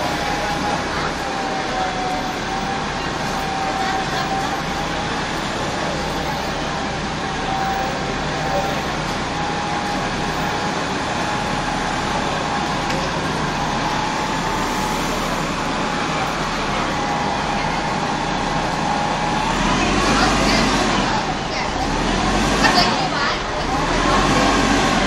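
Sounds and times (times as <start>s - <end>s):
bus engine running: 0.0s - 25.0s
traffic noise: 0.0s - 25.0s.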